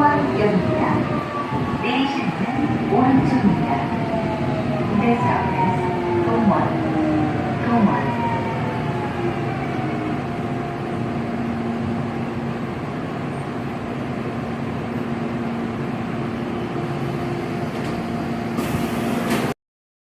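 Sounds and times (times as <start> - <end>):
electric train rolling: 0.0 - 19.5.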